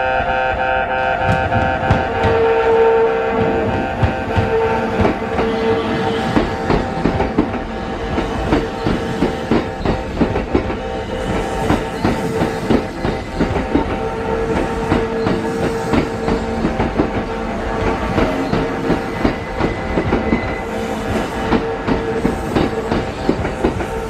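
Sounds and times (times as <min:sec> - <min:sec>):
steady train tone: 0:00.0 - 0:24.0
train wheels clacking over rail joints: 0:01.2 - 0:24.0.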